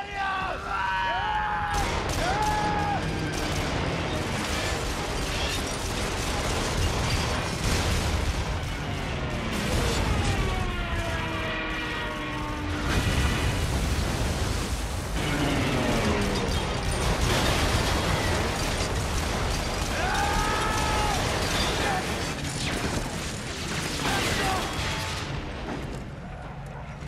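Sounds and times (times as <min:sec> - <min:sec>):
explosions: 0:01.6 - 0:26.5
anti-aircraft gunfire: 0:01.7 - 0:26.4.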